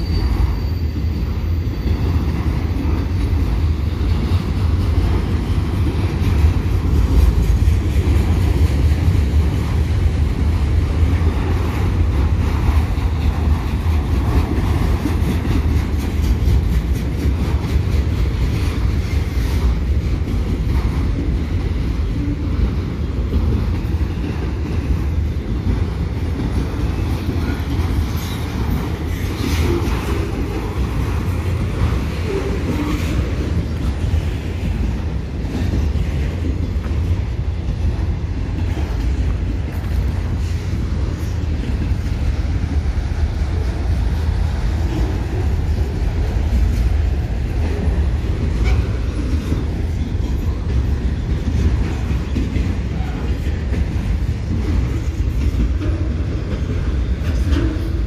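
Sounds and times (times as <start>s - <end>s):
train wheels rumbling on rails: 0.0s - 58.0s
wheels clicking over rail joints: 0.0s - 58.0s.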